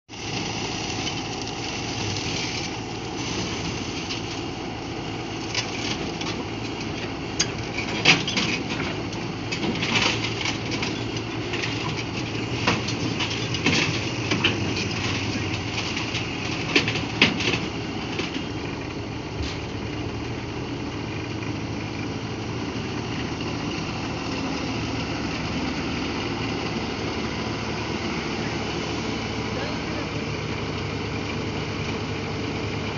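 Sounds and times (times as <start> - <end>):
machine running steadily: 0.1 - 32.9.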